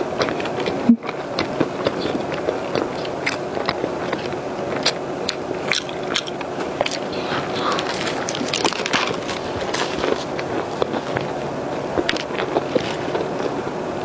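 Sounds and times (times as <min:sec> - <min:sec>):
mouth chewing wet squishing: 0:00.0 - 0:13.7.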